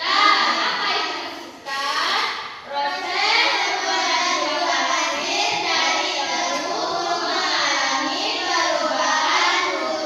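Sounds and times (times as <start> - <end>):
children singing: 0.0 - 1.3, 2.6 - 10.0.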